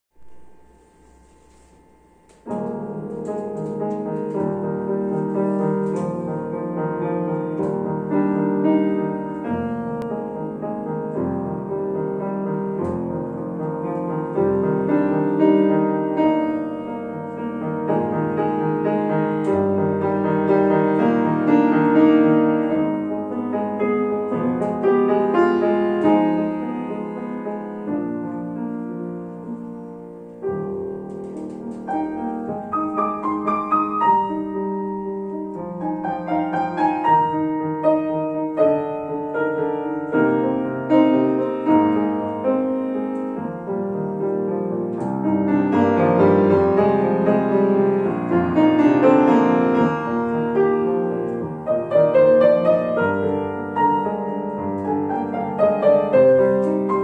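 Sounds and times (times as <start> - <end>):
solo grand piano: 0.1 - 57.0.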